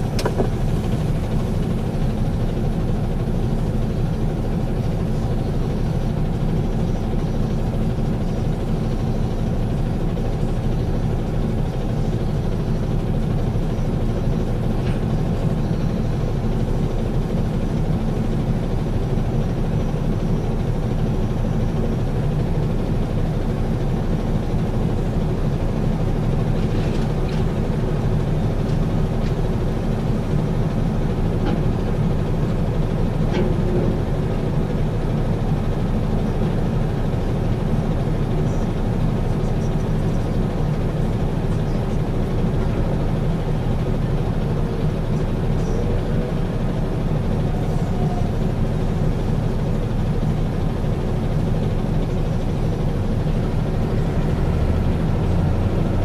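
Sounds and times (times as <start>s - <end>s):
diesel engines running under load: 0.0s - 56.0s.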